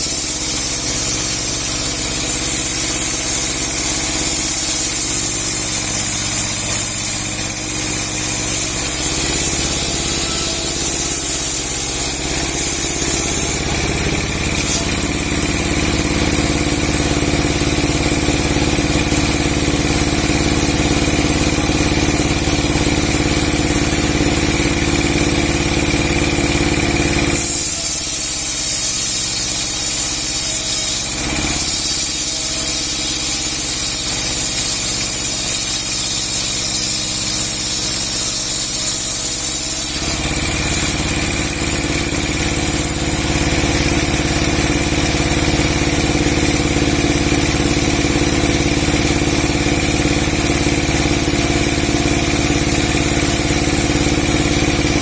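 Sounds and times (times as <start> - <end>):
log-sawing machine running: 0.0 - 55.0.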